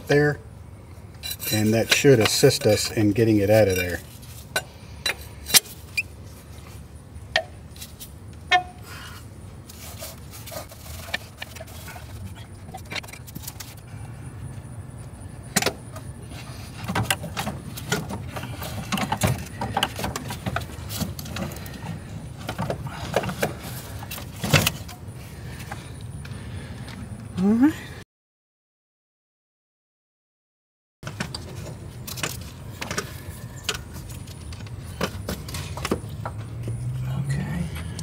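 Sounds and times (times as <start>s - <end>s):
metal clinks and scrapes in engine bay: 0.0s - 0.4s, 1.0s - 27.0s, 31.0s - 38.0s.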